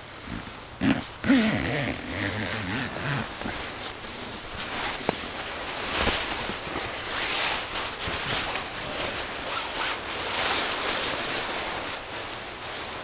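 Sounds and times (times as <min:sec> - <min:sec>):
nylon fabric rustling: 0:00.0 - 0:13.0.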